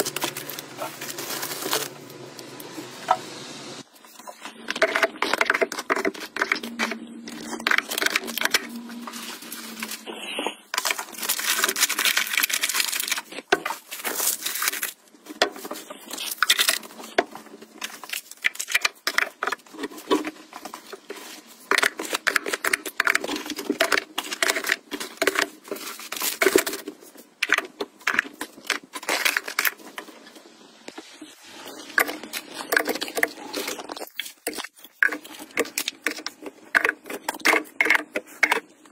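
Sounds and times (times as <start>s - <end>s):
plastic packets crinkling: 0.0s - 2.7s, 4.0s - 30.4s, 31.0s - 38.9s.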